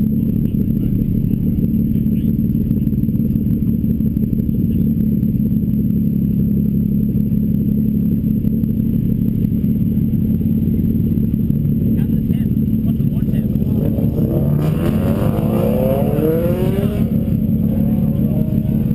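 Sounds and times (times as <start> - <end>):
car engine low rumble: 0.0 - 18.9.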